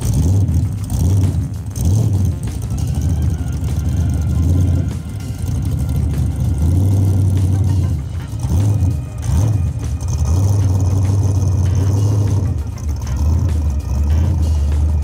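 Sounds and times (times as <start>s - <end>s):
car engine idling unevenly: 0.0s - 15.0s.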